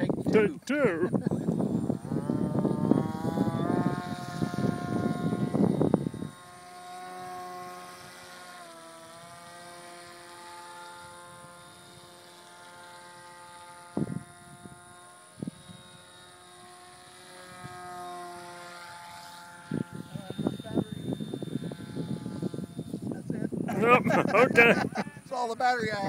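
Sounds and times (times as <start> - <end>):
model aircraft motor whine: 0.0 - 26.0.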